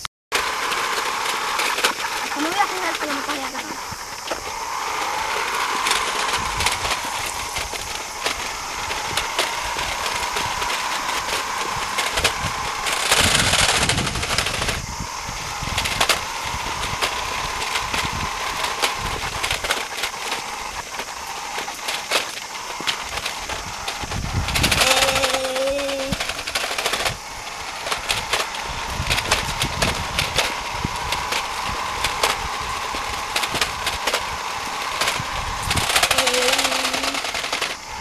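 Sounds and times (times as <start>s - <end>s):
plastic wheels and gears rattling: 0.0s - 38.0s
toy car electric motor whining: 0.0s - 38.0s.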